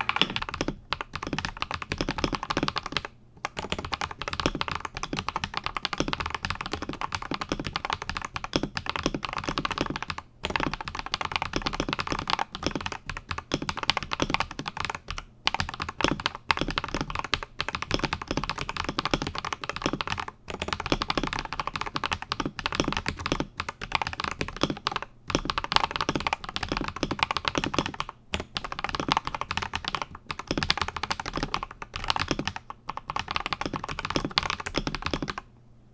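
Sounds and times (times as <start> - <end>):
mechanical keyboard typing: 0.0 - 35.5.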